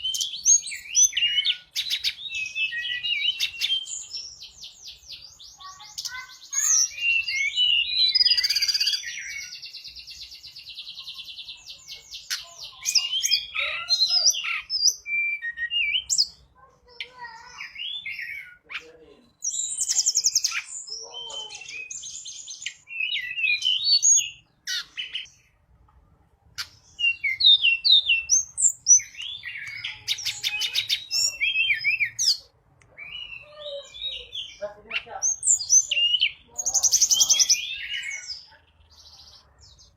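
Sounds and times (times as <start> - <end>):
songbird singing trills: 0.0 - 25.6, 26.5 - 39.9.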